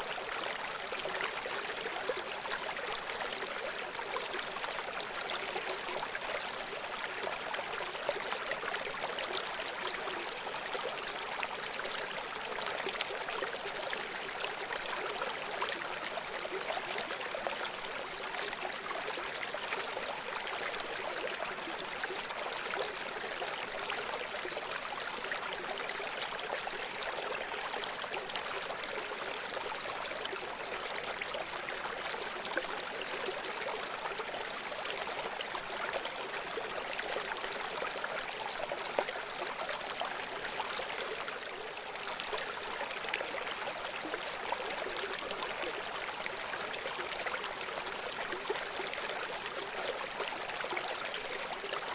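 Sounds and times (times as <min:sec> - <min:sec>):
stream flowing over rocks: 0:00.0 - 0:51.9.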